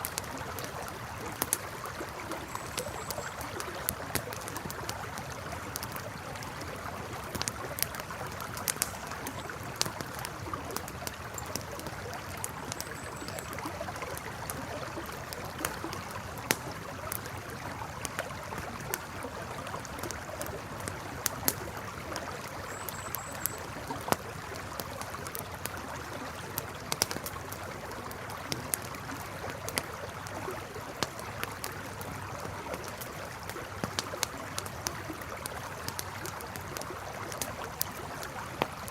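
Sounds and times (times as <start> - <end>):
campfire crackling and popping: 0.0 - 38.9
flowing river: 0.0 - 38.9.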